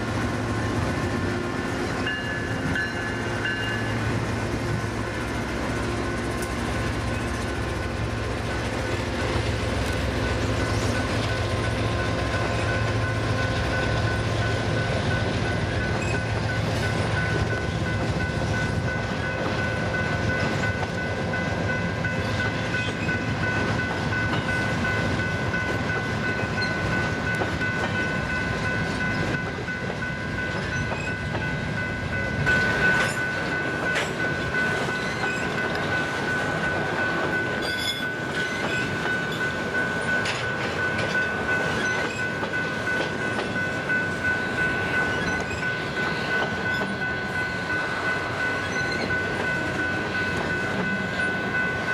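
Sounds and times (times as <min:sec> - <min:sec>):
train wheels clattering on rails: 0:00.0 - 0:51.9.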